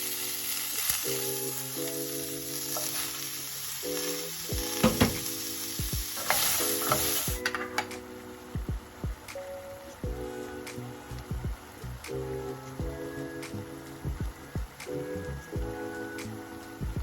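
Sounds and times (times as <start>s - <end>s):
food sizzling in frying: 0.0s - 16.9s
soft music of held chords: 0.0s - 17.0s.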